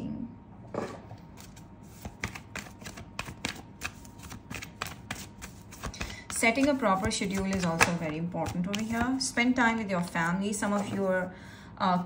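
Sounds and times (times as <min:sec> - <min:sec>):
cards being shuffled: 0:01.4 - 0:11.1.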